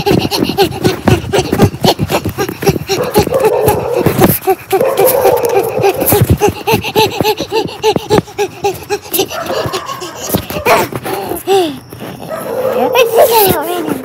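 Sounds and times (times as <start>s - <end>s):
person laughing: 0.0s - 11.8s.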